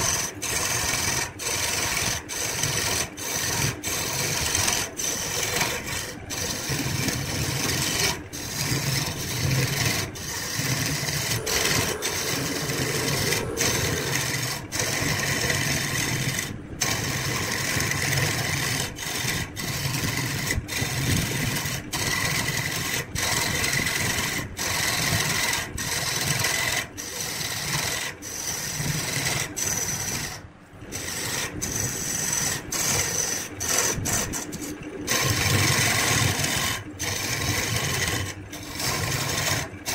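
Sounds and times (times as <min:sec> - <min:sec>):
tool scraping spinning wood: 0:00.0 - 0:39.9
wood lathe humming: 0:00.0 - 0:39.9.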